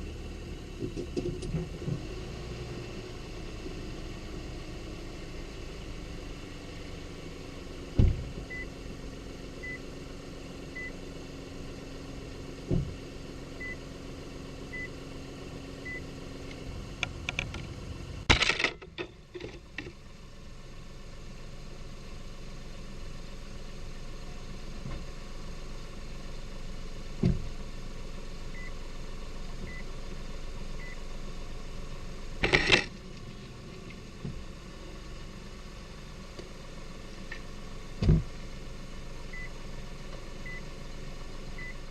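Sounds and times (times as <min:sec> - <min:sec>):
road rumble: 0:00.0 - 0:41.9.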